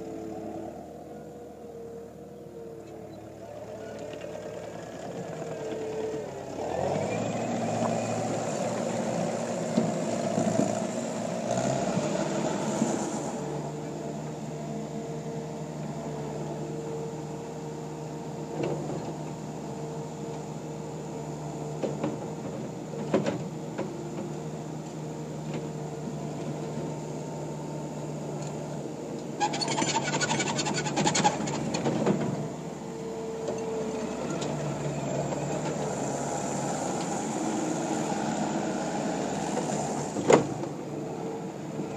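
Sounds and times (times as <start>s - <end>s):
track loader diesel engine: 0.0s - 41.9s.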